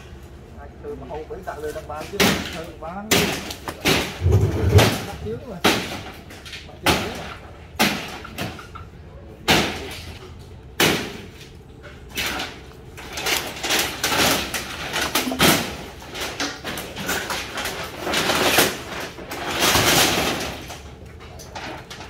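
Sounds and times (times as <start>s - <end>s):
wooden boards clattering and scraping: 2.0s - 8.8s, 10.8s - 22.0s.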